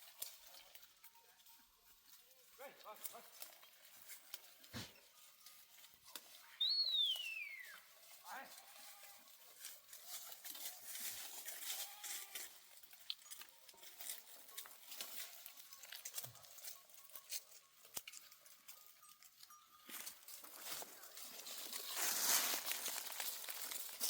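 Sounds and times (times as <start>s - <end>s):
hooves clicking and tapping: 0.0s - 24.0s
sheep and goats bleating: 2.4s - 24.0s.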